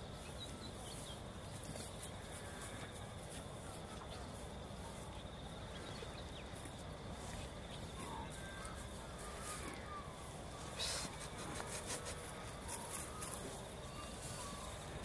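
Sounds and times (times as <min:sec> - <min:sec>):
faint bird calls: 0:00.0 - 0:15.0.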